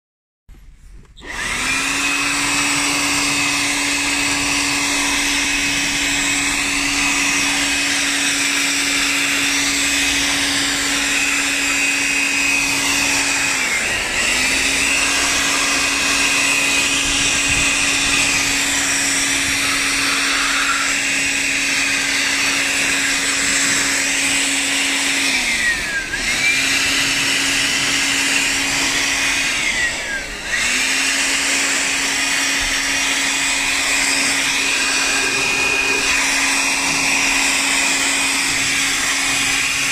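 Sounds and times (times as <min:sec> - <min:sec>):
leaf blower motor whining: 0:01.0 - 0:39.9.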